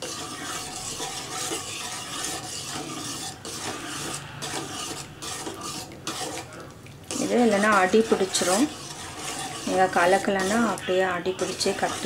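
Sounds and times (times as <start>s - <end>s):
ladle stirring porridge in pot: 0.0s - 12.0s.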